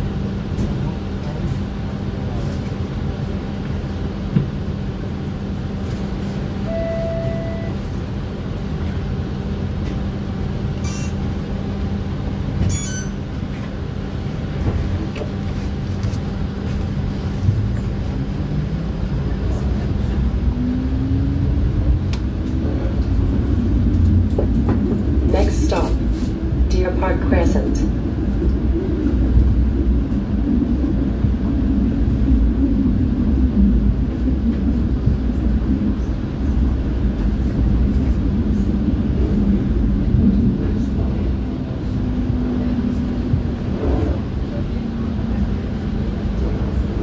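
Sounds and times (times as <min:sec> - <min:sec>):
streetcar electrical hum: 0:00.0 - 0:47.0.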